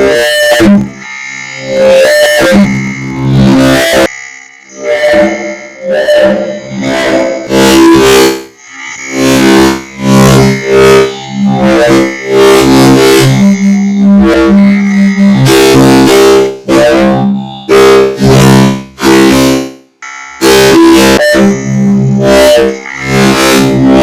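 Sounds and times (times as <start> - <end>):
lightsaber buzzing hums: 0.0 - 24.0.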